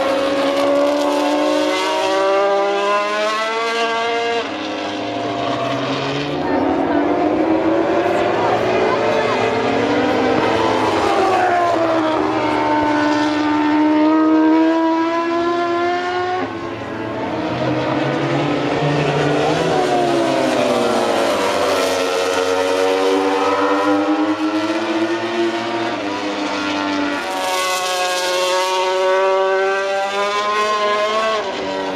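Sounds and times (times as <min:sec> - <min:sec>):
racing motorcycle engines revving: 0:00.0 - 0:31.9.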